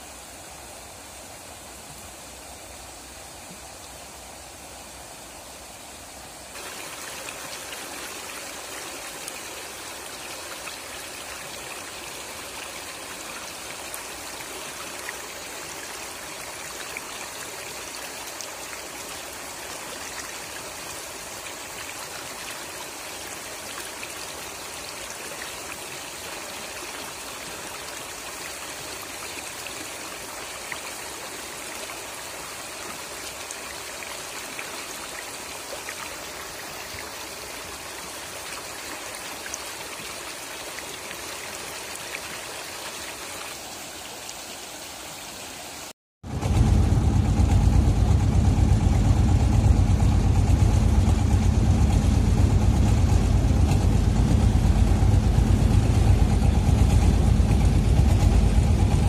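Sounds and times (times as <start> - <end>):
floodwater rushing: 0.0 - 46.0, 47.3 - 59.0.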